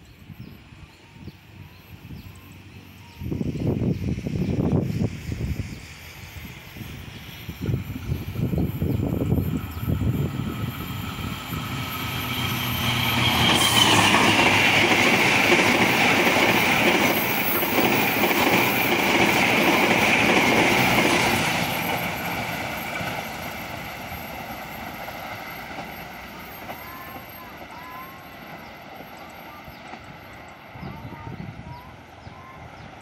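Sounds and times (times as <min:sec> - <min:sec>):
train passing at speed: 0:00.0 - 0:33.0
wheel-on-rail noise: 0:00.9 - 0:33.0.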